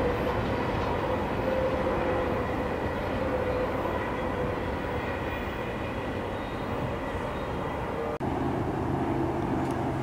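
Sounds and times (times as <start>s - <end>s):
distant freight train rumble: 0.0s - 10.0s.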